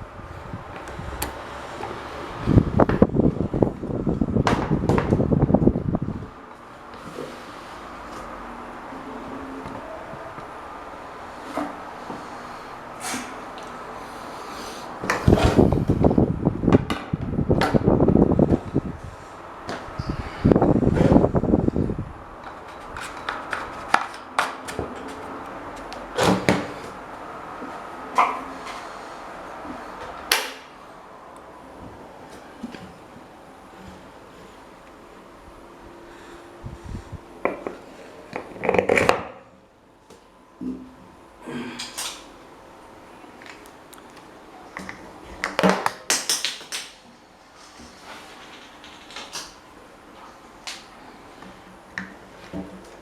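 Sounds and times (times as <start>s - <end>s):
faint steady hum: 0.0s - 45.8s.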